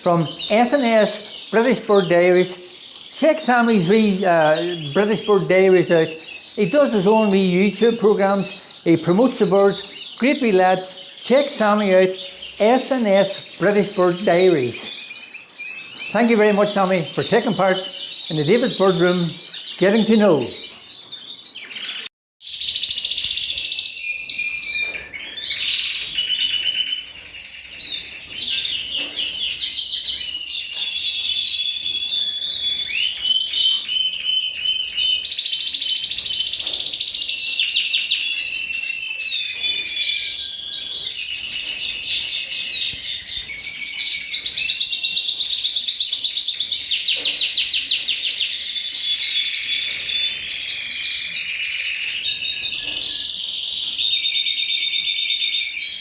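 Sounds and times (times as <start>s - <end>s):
songbird trilling and warbling: 0.0s - 56.0s.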